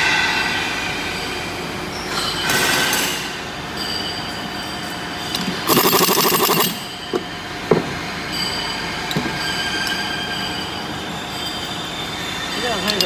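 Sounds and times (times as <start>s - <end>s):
factory machinery noise: 0.0s - 13.0s.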